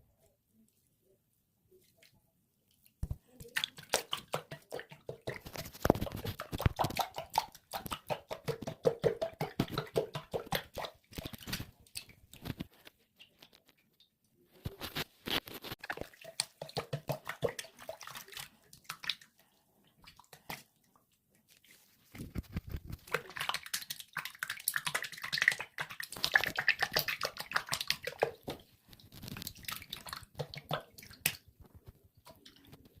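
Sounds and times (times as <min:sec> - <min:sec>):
liquid soap squelching: 0:01.7 - 0:33.0.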